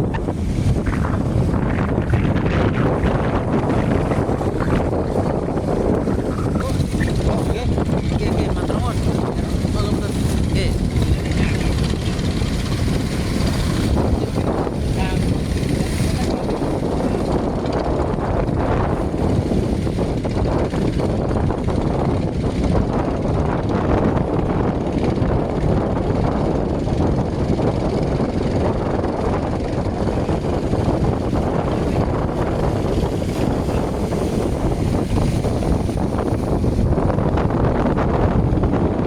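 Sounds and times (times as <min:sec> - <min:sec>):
boat engines droning: 0:00.0 - 0:39.0.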